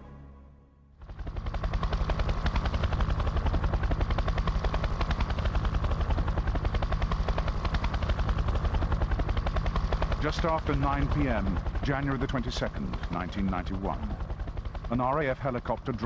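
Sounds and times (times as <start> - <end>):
helicopter rotor chopping: 1.0 - 16.0.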